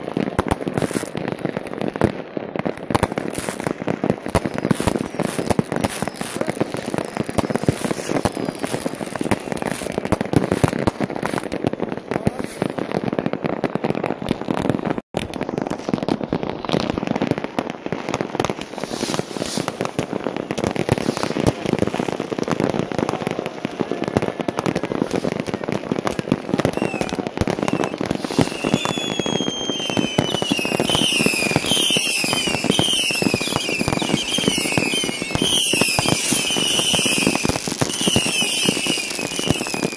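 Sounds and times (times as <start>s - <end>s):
fireworks crackling and banging: 0.0s - 39.9s
whistling fireworks: 0.0s - 39.9s.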